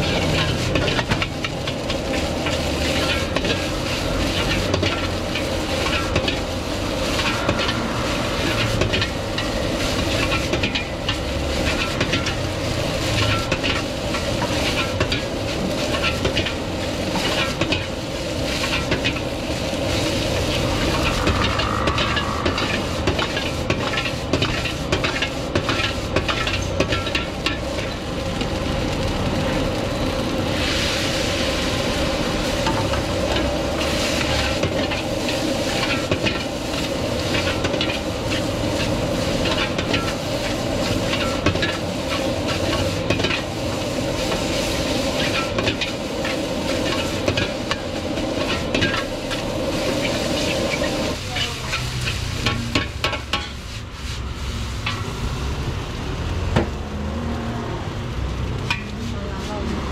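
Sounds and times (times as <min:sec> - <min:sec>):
metal ladle scraping wok: 0:00.0 - 0:28.6, 0:30.4 - 0:55.4, 0:58.6 - 0:59.9
gas burner roaring: 0:00.0 - 0:59.9
rice sizzling: 0:00.0 - 0:59.9.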